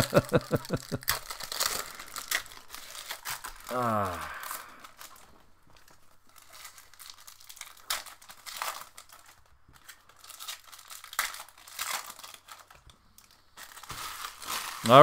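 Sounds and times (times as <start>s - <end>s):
wrapping crinkling and tearing: 0.0s - 15.0s.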